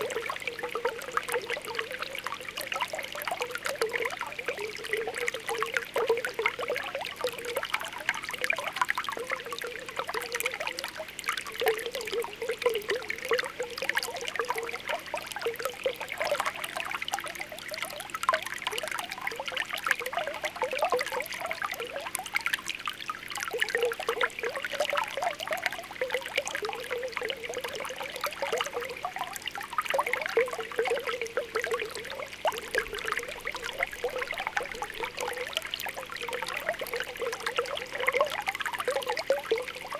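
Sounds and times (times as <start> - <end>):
spring water bubbling: 0.0 - 39.9
water trickle: 0.0 - 39.9.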